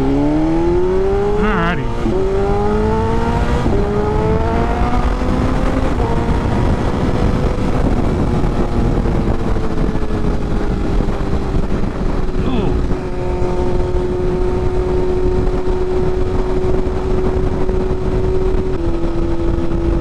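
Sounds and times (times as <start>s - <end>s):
motorcycle engine accelerating: 0.0s - 20.0s
wind rush on microphone: 0.0s - 20.0s.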